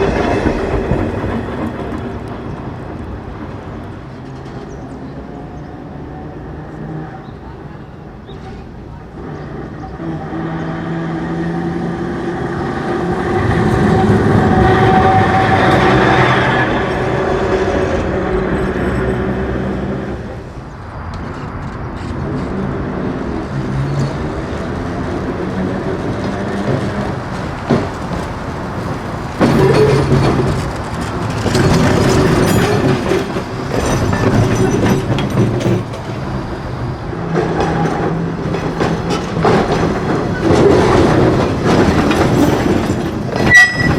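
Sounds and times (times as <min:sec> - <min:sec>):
streetcar motor hum: 0:00.0 - 0:43.9
wheels clacking over track: 0:00.0 - 0:43.9.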